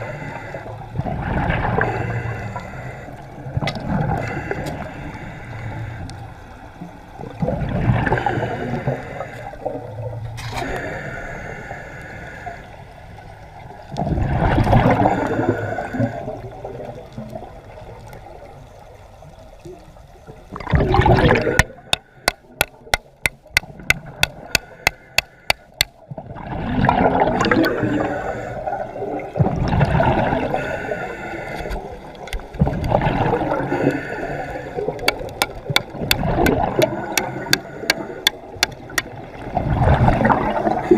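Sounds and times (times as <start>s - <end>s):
water rushing and gurgling: 0.0s - 40.9s.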